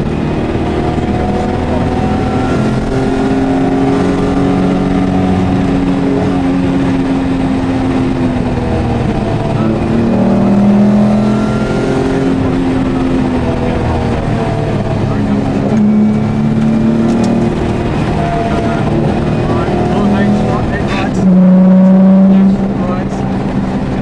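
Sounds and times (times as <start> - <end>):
car engine pulling hard: 0.0 - 24.0.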